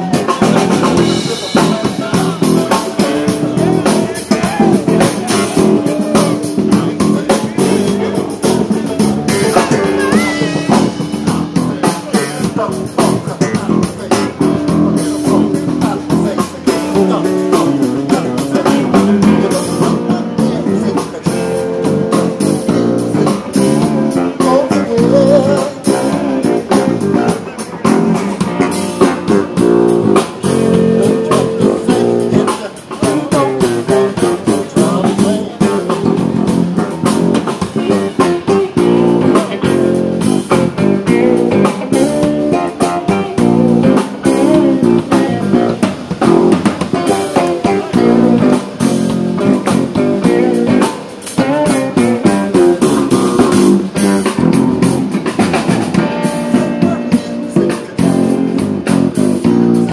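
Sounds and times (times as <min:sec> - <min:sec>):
drum kit beat: 0:00.0 - 0:59.9
funk electric guitar: 0:00.0 - 0:59.9.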